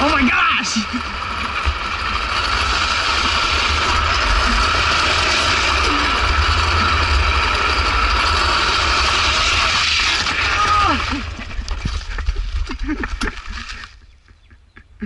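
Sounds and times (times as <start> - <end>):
wheels rolling on pavement: 0.0 - 14.7.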